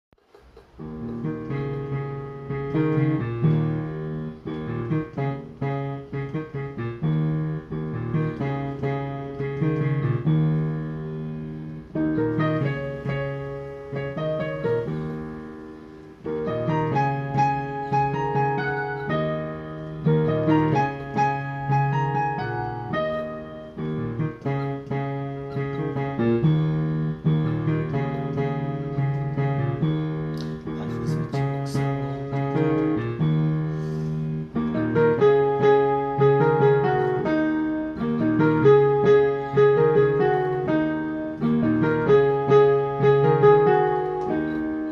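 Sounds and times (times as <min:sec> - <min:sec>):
piano music: 0:00.2 - 0:44.9.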